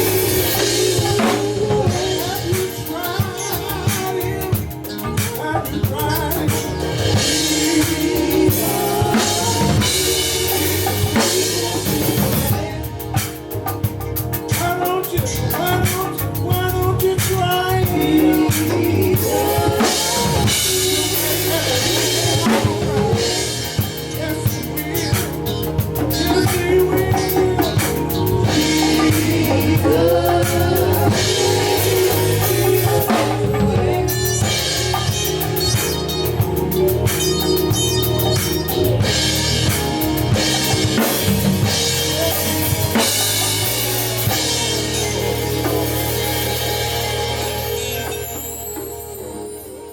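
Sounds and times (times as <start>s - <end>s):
band playing a song: 0.0s - 49.9s.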